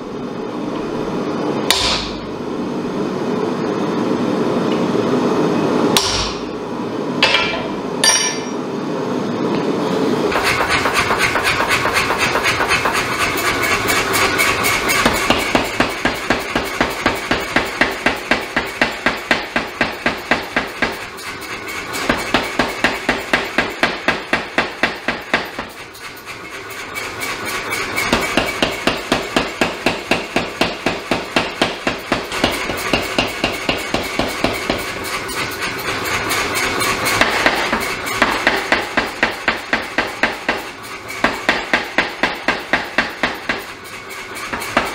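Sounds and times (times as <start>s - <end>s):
power hammer striking steel: 1.7s - 2.3s, 6.0s - 6.6s, 7.2s - 8.7s, 10.3s - 26.3s, 27.5s - 44.9s.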